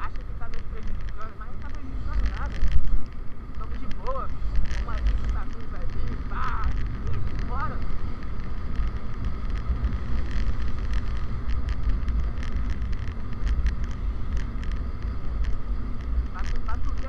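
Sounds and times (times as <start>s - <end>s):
motorcycle engine and road rumble: 0.0s - 17.0s
wind buffeting on microphone: 0.0s - 17.0s.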